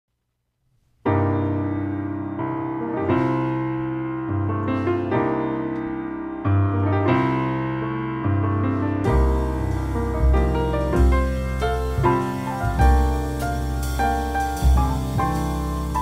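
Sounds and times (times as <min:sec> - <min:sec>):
piano playing jazz chords: 0:01.0 - 0:16.0.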